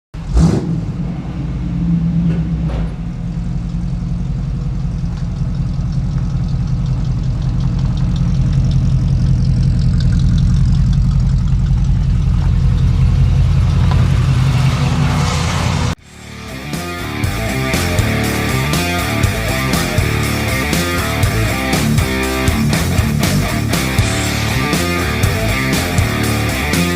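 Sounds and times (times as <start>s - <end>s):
vehicle engine running: 0.2s - 26.9s.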